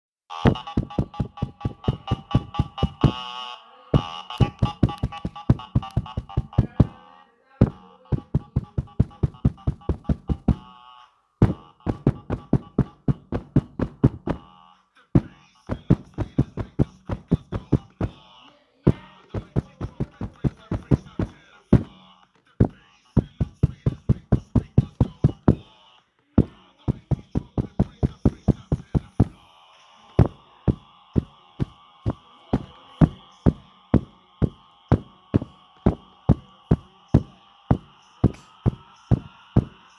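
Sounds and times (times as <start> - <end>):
fast sharp knocks: 0.3 - 3.2, 4.0 - 7.0, 7.6 - 10.7, 11.4 - 14.5, 15.2 - 18.2, 18.9 - 22.0, 22.6 - 25.6, 26.4 - 29.4, 30.2 - 39.8.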